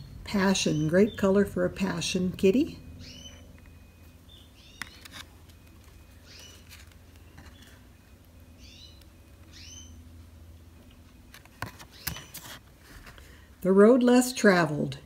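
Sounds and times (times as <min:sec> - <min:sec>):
bird chirping: 0:00.0 - 0:12.5
low steady hum: 0:00.0 - 0:15.0.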